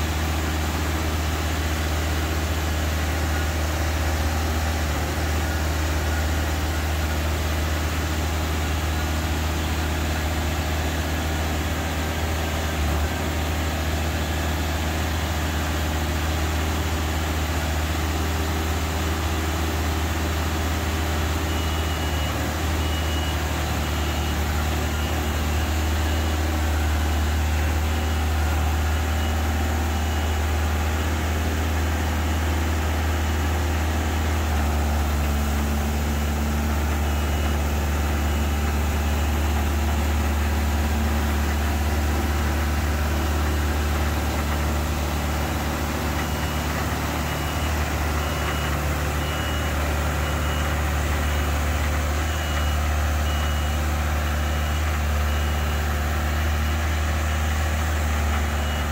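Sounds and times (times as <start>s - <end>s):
boom lift engine idling: 0.0s - 58.9s.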